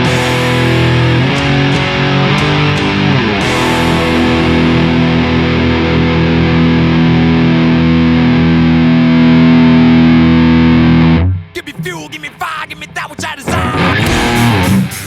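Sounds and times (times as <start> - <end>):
distorted electric guitar chord: 0.0 - 15.0.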